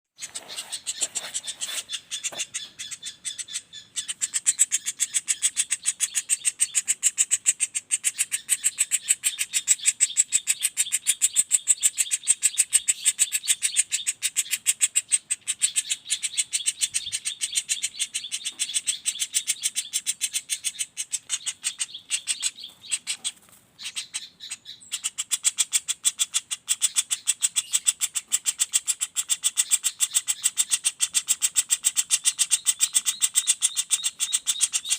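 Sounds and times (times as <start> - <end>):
woodpecker rattling trill: 0.2 - 34.9.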